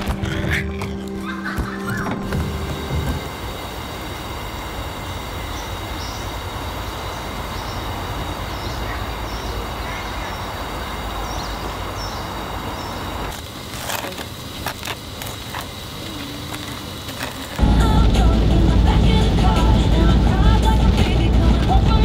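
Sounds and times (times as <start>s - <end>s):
steady rushing noise: 2.2s - 22.0s.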